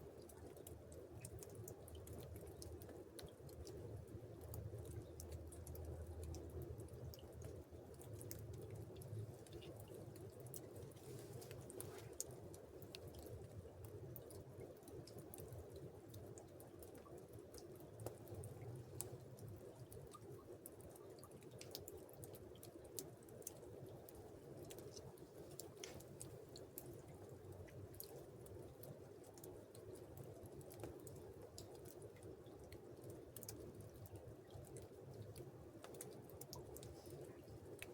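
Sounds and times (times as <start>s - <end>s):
faint ticks and clicks: 0.0s - 37.9s.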